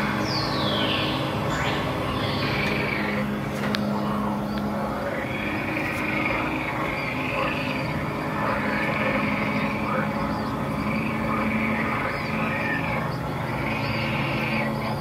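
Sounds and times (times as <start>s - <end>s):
motor hum: 0.0s - 15.0s
recorded creature sounds: 0.0s - 15.0s.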